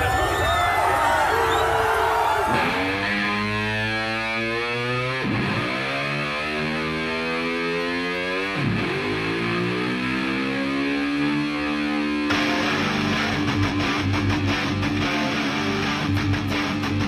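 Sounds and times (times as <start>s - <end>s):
distorted electric guitar: 2.4s - 17.0s.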